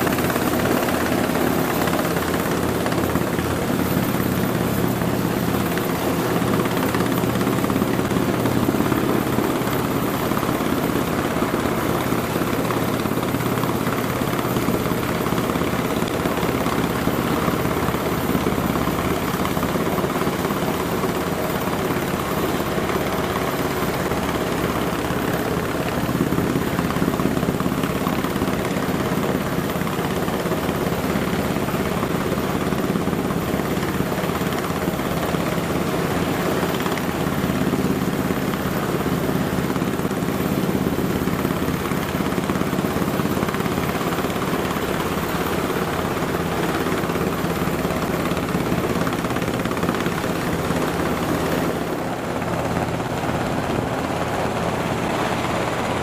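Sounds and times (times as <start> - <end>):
helicopter rotor beat: 0.0 - 56.0
turbine engine whine: 0.0 - 56.0.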